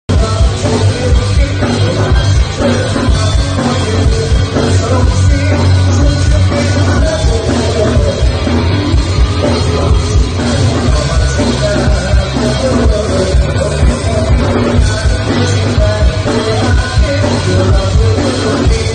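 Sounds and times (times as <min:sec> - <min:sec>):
loud rock music with singing: 0:00.1 - 0:18.9.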